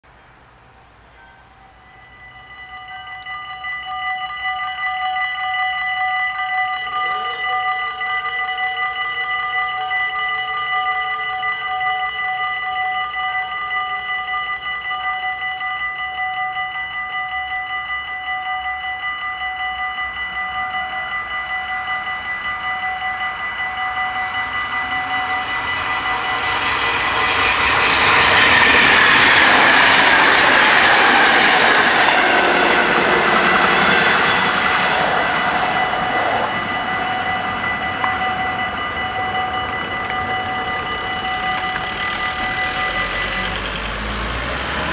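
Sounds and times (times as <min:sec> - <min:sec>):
electric train passing: 0:00.1 - 0:44.9
level crossing bells ringing: 0:01.1 - 0:44.9.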